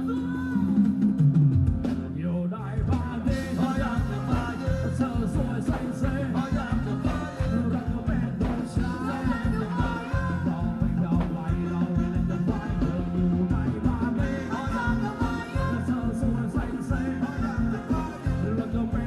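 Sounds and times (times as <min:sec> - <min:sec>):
band playing dance song: 0:00.0 - 0:19.0
person singing: 0:02.2 - 0:19.0.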